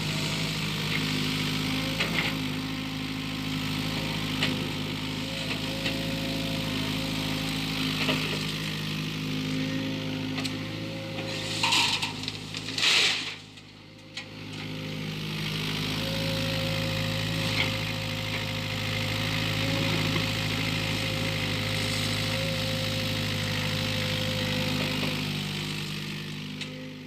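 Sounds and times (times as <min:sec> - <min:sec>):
excavator engine idling: 0:00.0 - 0:27.0.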